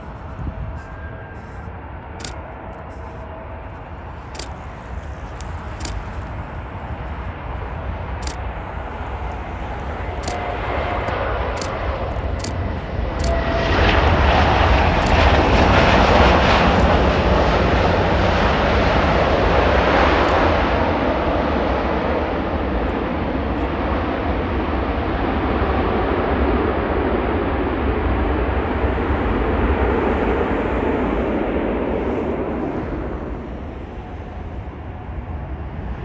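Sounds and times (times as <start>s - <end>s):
jet airliner landing roar: 0.0s - 36.0s.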